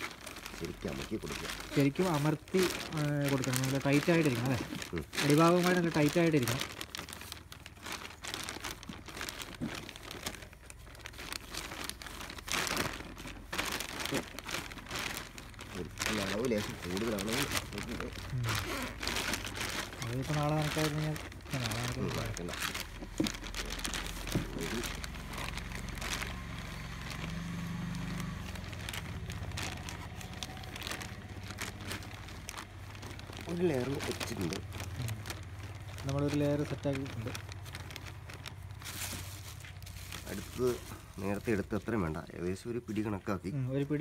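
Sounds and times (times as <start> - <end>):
plastic bag crinkling: 0.0 - 44.0
straw rustling: 0.0 - 44.0.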